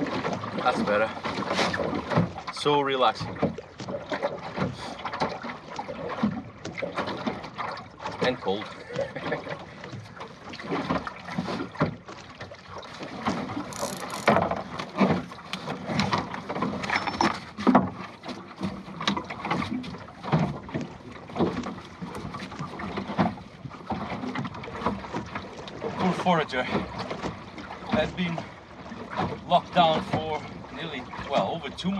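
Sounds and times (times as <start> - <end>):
water slapping against boat hull: 0.0 - 31.9.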